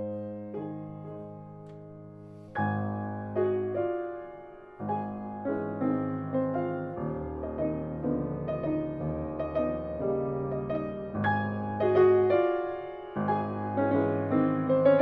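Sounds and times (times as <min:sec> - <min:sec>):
instrumental piano music: 0:00.0 - 0:15.0.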